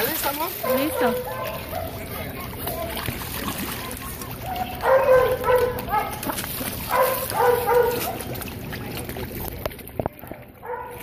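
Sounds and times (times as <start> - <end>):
churning water: 0.0 - 11.0.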